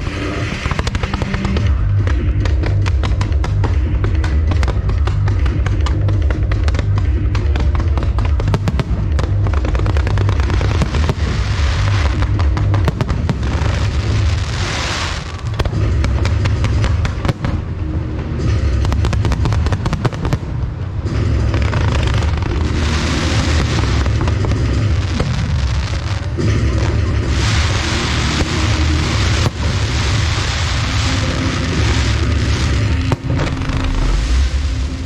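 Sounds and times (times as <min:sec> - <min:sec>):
deep fireworks booms: 0:00.0 - 0:35.0
fireworks crackling and popping: 0:00.0 - 0:35.0
sizzling crackling fireworks: 0:00.0 - 0:35.0.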